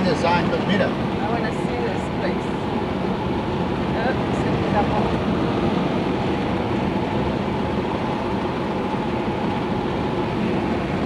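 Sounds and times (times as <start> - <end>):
car engine: 0.0 - 11.0
tyre road noise: 0.0 - 11.0.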